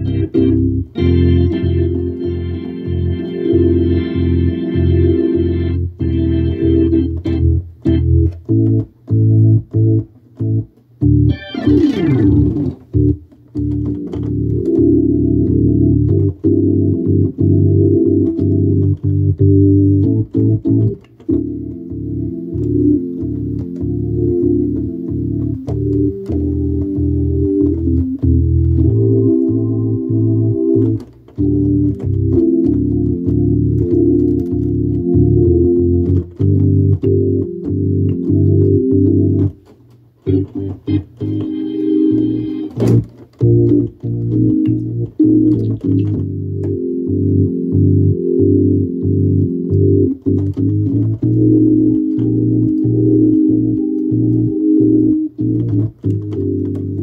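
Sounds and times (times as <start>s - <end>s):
organ chord stabs: 0.0s - 57.0s
organ glissando: 0.0s - 57.0s.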